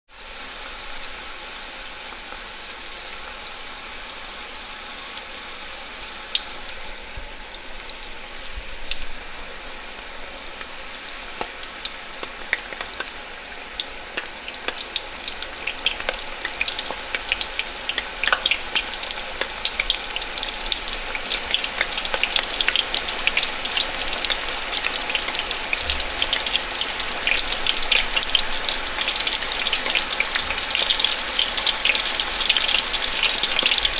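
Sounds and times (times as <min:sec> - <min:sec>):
food sizzling in a pan: 0:00.1 - 0:33.9
sharp crackles of frying: 0:00.1 - 0:33.9.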